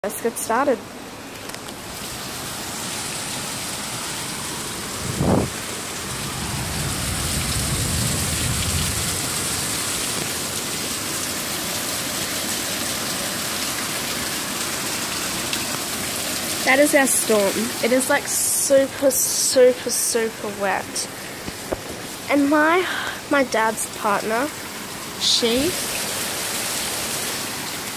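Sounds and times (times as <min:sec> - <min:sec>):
heavy rain pouring: 0:01.3 - 0:27.9.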